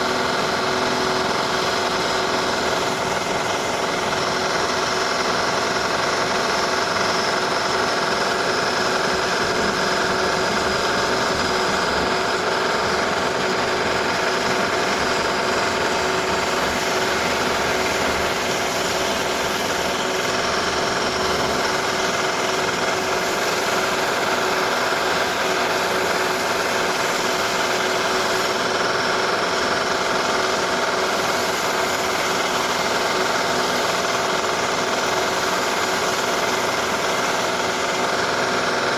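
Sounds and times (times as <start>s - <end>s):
electric drill running: 0.0s - 38.9s.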